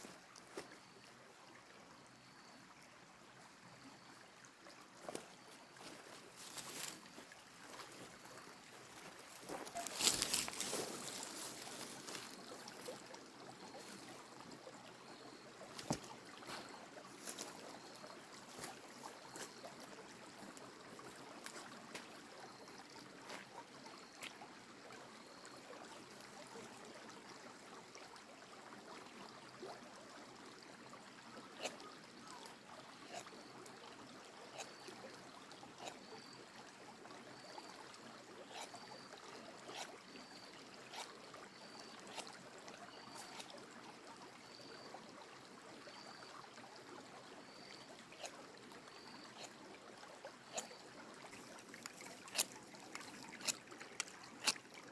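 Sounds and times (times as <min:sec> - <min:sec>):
creek water running: 0:00.0 - 0:54.9.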